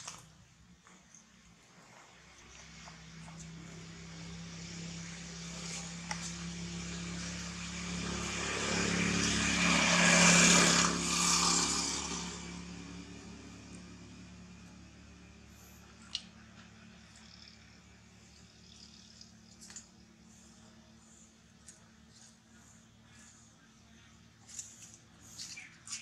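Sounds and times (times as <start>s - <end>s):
vehicle engine passing by: 2.2s - 23.4s.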